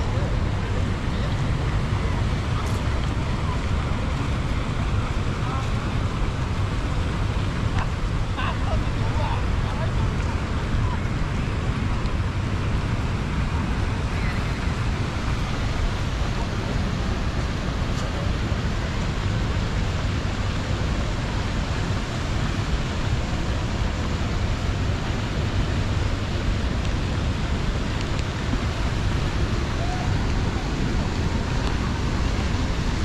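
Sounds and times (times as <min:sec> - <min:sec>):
fountain water splashing: 0:00.0 - 0:33.0.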